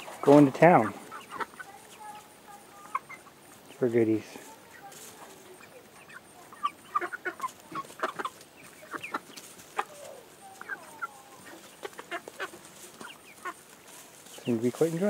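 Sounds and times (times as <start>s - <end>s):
chicks peeping and clucking: 0.0s - 15.0s.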